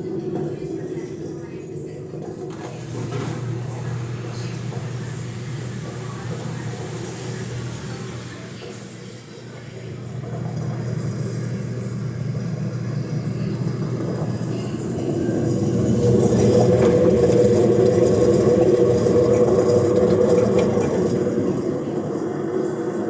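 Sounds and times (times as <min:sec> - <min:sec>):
steady hum: 0:00.0 - 0:23.0
washing machine drum spinning: 0:00.0 - 0:23.0.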